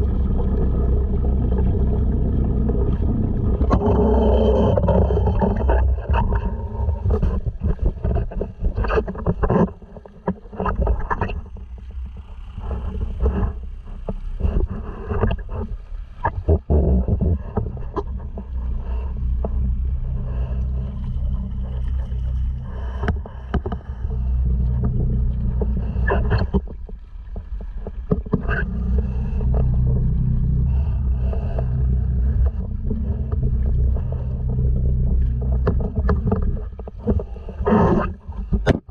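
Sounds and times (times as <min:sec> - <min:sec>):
outboard motor running: 0:00.0 - 0:38.9
water splashes and knocks: 0:04.7 - 0:19.8, 0:20.4 - 0:30.0, 0:32.3 - 0:38.9.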